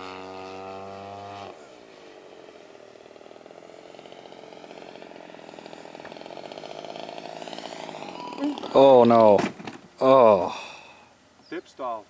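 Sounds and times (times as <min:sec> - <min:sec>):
model airplane engine buzzing: 0:00.0 - 0:10.0.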